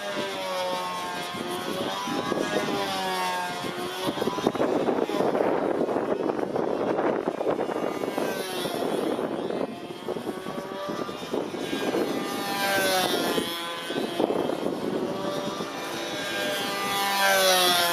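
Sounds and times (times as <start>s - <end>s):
gusty wind noise: 0.0s - 17.9s
model airplane engine buzzing: 0.0s - 17.9s.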